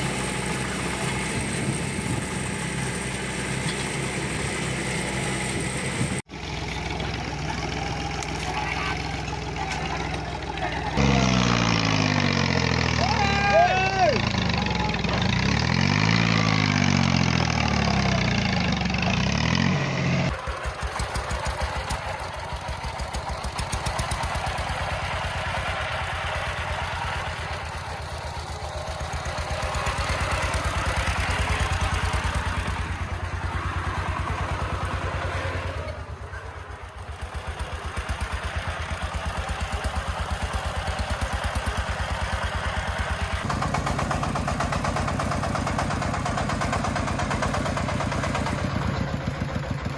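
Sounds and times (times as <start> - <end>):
diesel tiller engine chugging: 0.0 - 49.9.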